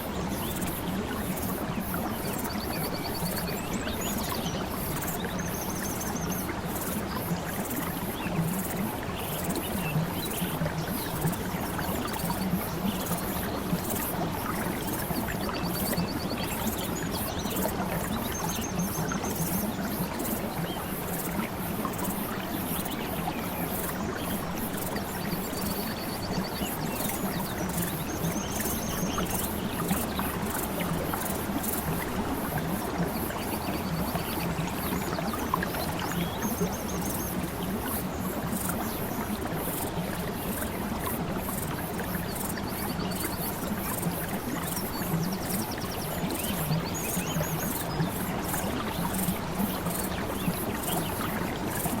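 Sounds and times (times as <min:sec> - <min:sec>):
flowing water: 0:00.0 - 0:52.0.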